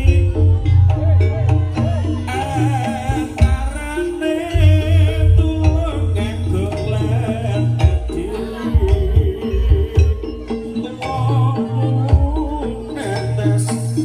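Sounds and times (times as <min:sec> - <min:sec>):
deep pulsing low beat: 0:00.0 - 0:14.0
hand drums: 0:00.0 - 0:14.0
wavering sung melody: 0:00.0 - 0:14.0.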